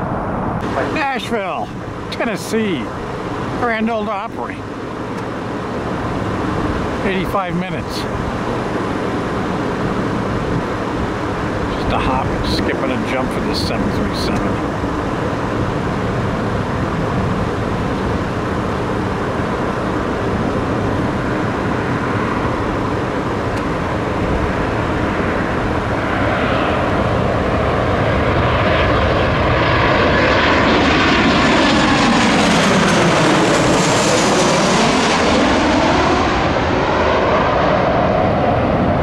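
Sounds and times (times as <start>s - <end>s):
jet airliner engines roaring: 0.0s - 39.0s.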